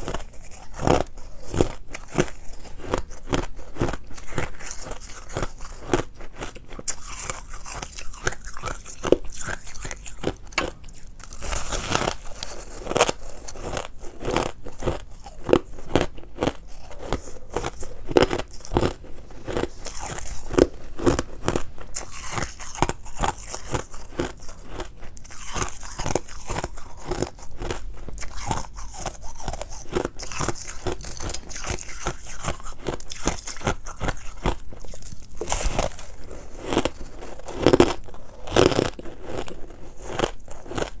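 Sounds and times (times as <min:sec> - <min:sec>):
person crunching ice: 0:00.0 - 0:41.0.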